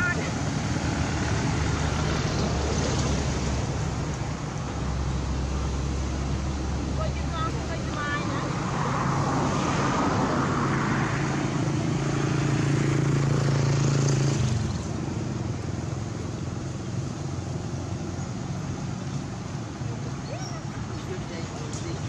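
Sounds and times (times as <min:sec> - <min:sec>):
outdoor background: 0:00.0 - 0:22.0.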